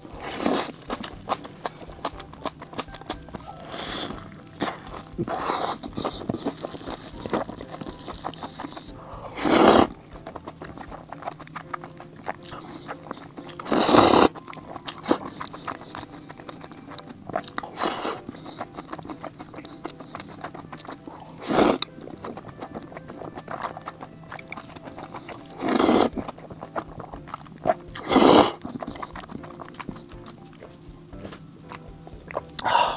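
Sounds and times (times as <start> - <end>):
crunchy bites into fried food: 0.0 - 32.6
chewing crackles: 0.0 - 32.9.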